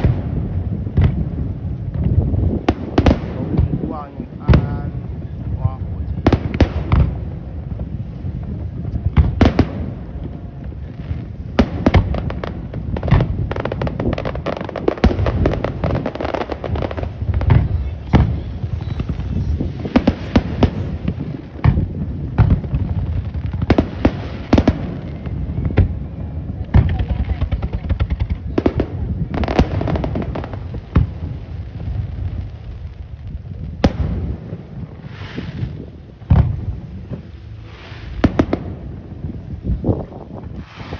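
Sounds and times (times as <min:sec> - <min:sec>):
fireworks bangs and cracks: 0:00.0 - 0:40.9
low rumble of bursting shells: 0:00.0 - 0:40.9.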